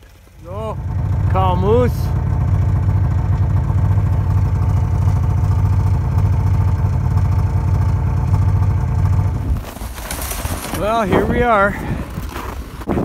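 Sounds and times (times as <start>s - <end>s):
snowmobile engine idling: 0.0s - 12.6s.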